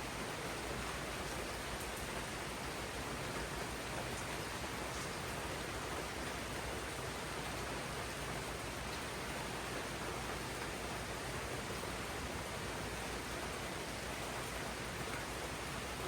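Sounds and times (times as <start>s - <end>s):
rain on foliage: 0.0s - 16.0s.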